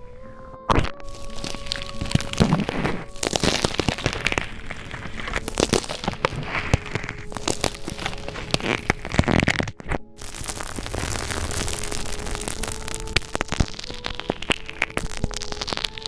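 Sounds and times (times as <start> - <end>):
slime crackling and popping: 0.7 - 16.0
slime squelching: 0.7 - 16.0.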